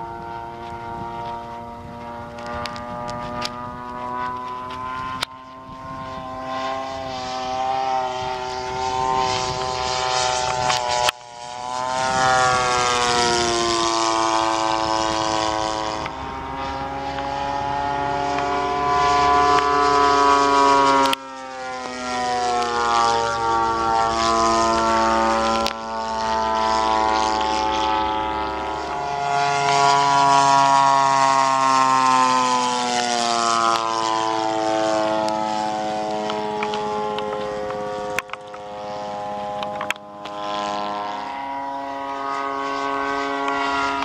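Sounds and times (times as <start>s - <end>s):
rc airplane engine and propeller: 0.0s - 44.0s.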